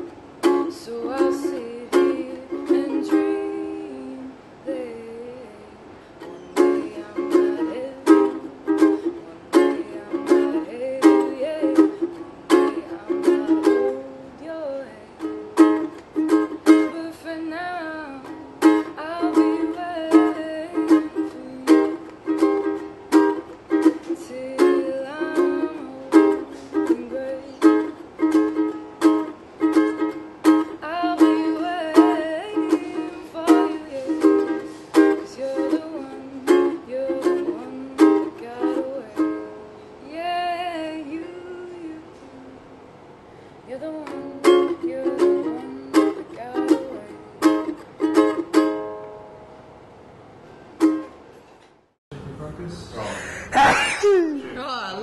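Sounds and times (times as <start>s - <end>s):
woman singing: 0.0s - 22.8s, 23.8s - 28.6s, 30.6s - 42.7s, 43.6s - 48.4s
ukulele strumming: 0.0s - 51.8s.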